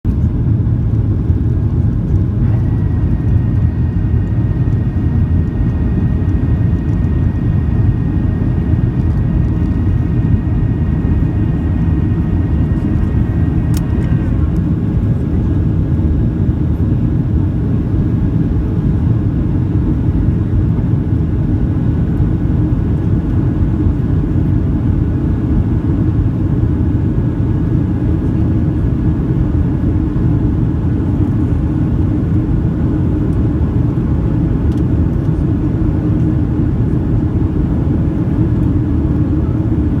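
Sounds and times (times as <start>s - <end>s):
airflow inside cabin: 0.0s - 40.0s
aircraft engines droning: 0.1s - 40.0s.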